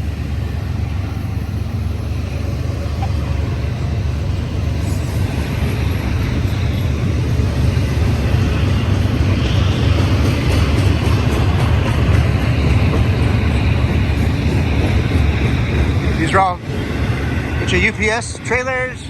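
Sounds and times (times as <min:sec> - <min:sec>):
freight trains rumbling: 0:00.0 - 0:19.0
wheel-on-rail noise: 0:00.0 - 0:19.0.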